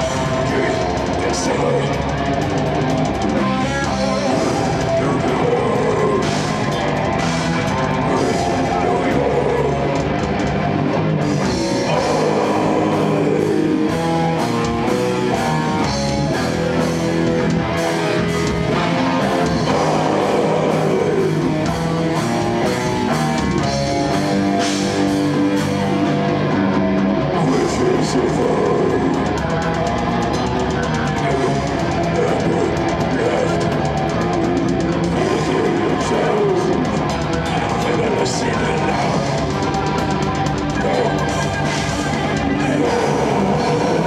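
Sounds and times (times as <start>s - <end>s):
bass guitar: 0.0s - 44.0s
distorted electric guitars: 0.0s - 44.0s
drum kit: 0.0s - 44.0s.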